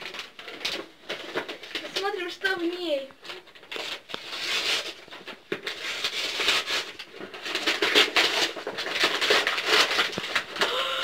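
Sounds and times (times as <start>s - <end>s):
parcel wrapping crinkling and tearing: 0.0s - 11.0s.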